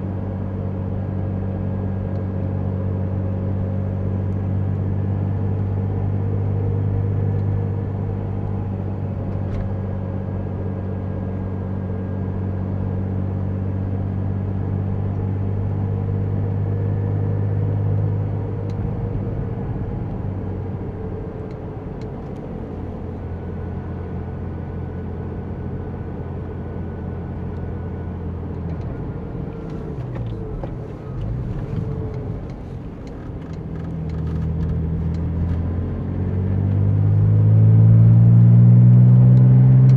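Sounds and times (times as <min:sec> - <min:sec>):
car engine running: 0:00.0 - 0:39.9
road noise: 0:02.9 - 0:39.9.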